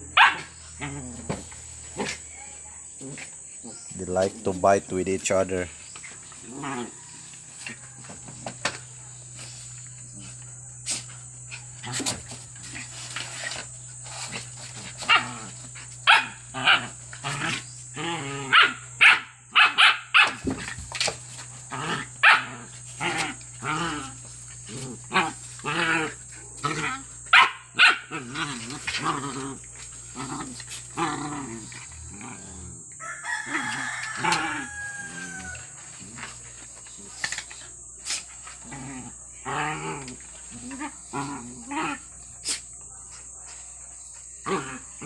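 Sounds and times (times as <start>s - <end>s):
dogs growling and barking: 0.0s - 4.5s, 5.2s - 45.0s.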